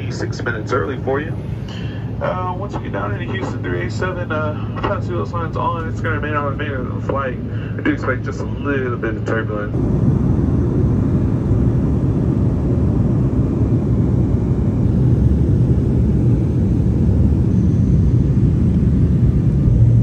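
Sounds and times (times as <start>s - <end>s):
jet airliner cabin drone: 0.0s - 20.0s.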